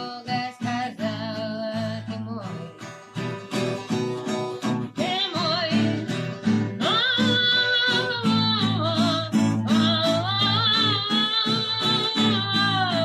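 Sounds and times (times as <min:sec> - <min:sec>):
person singing: 0:00.0 - 0:03.4, 0:04.4 - 0:13.0
acoustic guitar strumming: 0:00.0 - 0:13.0.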